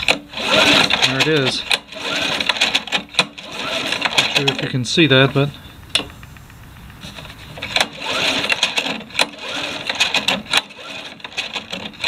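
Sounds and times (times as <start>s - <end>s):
sharp irregular clicks: 0.0s - 4.7s, 5.9s - 12.0s
engine turned over by hand: 0.0s - 12.0s.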